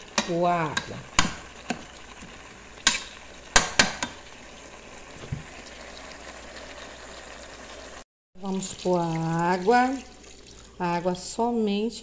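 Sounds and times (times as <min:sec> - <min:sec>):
stew sizzling: 0:00.0 - 0:11.4.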